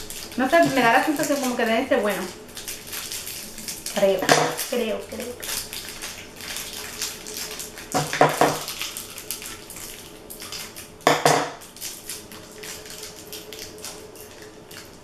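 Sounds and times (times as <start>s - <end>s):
plastic candy wrappers crinkling: 0.0s - 11.0s, 11.6s - 15.0s.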